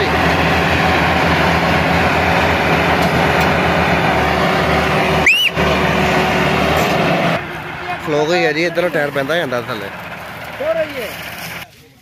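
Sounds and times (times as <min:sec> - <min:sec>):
tractor diesel engines under load: 0:00.0 - 0:12.0.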